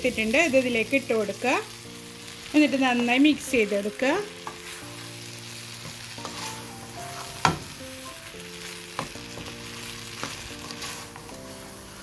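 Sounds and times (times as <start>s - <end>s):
noodles sizzling in pan: 0.0s - 12.0s
soft background music: 0.0s - 12.0s.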